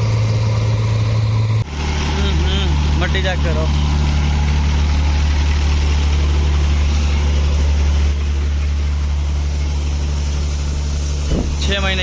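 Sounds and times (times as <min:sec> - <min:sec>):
harvester diesel engine drone: 0:00.0 - 0:12.0.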